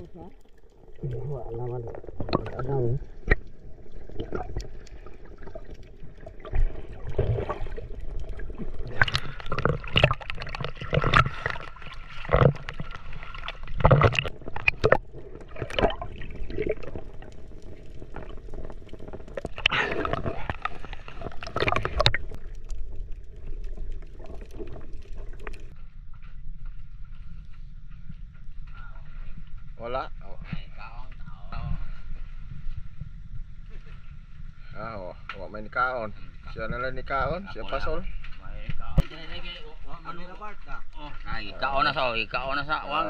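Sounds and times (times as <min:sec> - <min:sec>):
water gurgling and bubbling underwater: 0:00.0 - 0:38.3.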